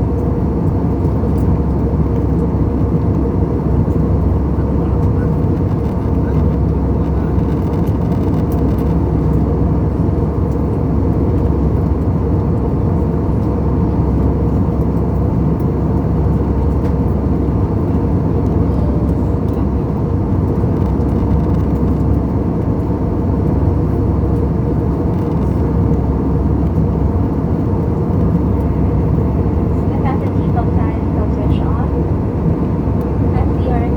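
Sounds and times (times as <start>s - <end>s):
airliner engine drone: 0.0s - 33.9s.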